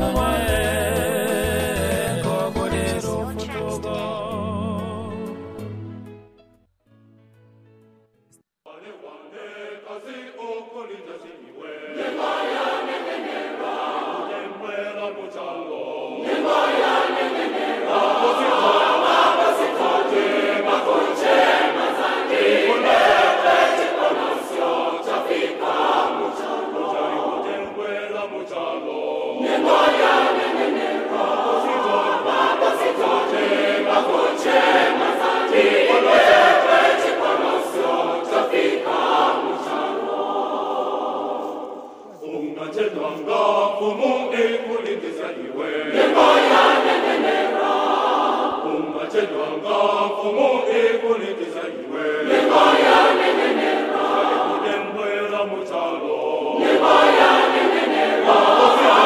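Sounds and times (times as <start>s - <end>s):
choir singing: 0.0s - 5.6s, 8.7s - 59.0s.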